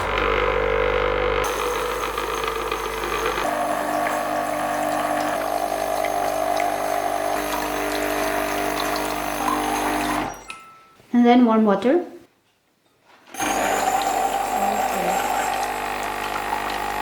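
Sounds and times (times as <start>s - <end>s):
coffee machine pump running: 0.0s - 10.5s, 13.3s - 17.0s.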